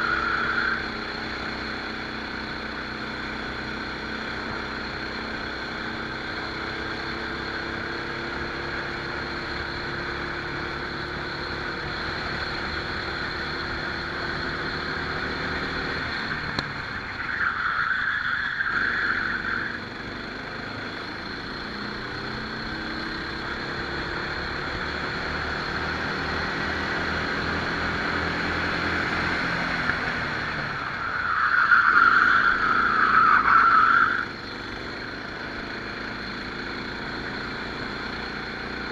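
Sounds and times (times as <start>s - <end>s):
kart engine accelerating: 0.0s - 38.9s.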